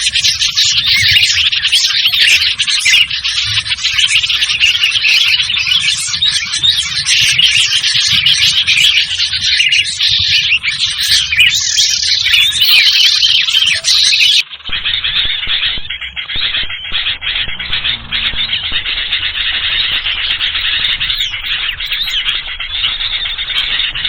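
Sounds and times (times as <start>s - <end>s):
flock of small birds calling: 0.0s - 24.0s
shrill squealing bird calls: 0.0s - 24.0s.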